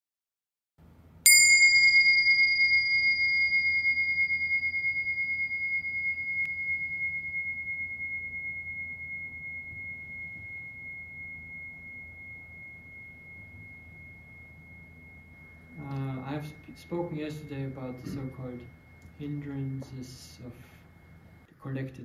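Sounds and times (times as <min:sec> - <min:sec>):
meditation bell ringing: 0:01.2 - 0:21.5.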